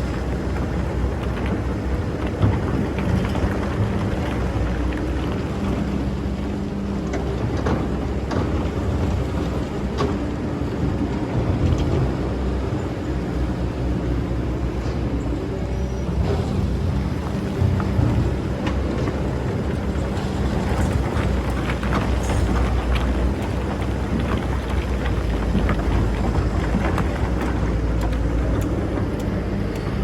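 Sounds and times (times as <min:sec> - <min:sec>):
excavator engine droning: 0:00.0 - 0:30.0.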